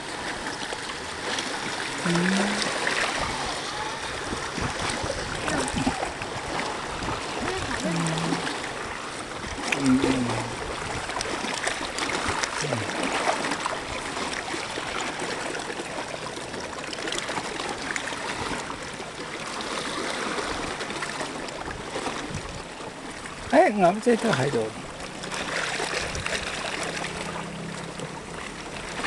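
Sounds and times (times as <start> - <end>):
faint splashes: 0.0 - 29.0
river water rushing: 0.0 - 29.0.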